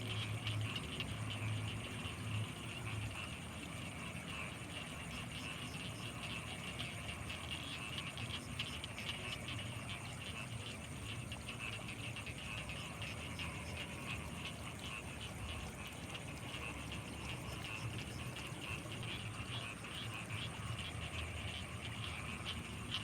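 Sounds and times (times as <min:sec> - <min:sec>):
frogs calling: 0:00.0 - 0:23.0.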